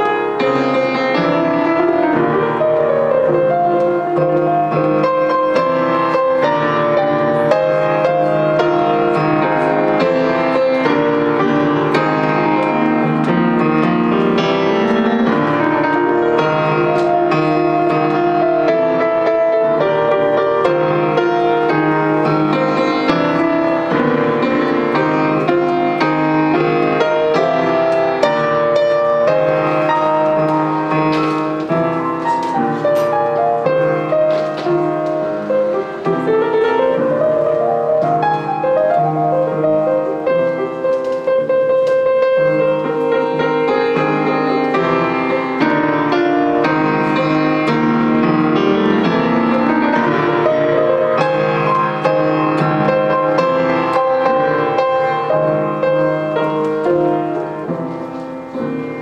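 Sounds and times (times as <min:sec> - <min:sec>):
grand piano playing jazz: 0:00.0 - 0:59.0.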